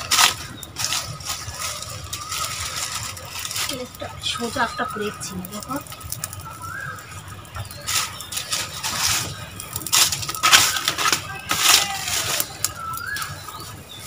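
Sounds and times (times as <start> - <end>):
dry leaves and twigs crunching: 0.0 - 14.0
stick scraping leaves: 0.0 - 14.0.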